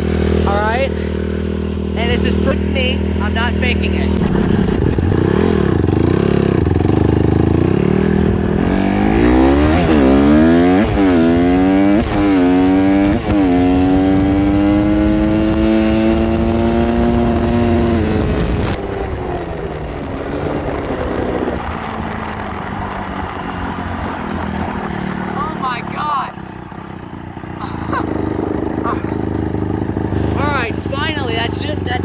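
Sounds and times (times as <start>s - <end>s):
dirt bike engine accelerating: 0.0s - 32.0s.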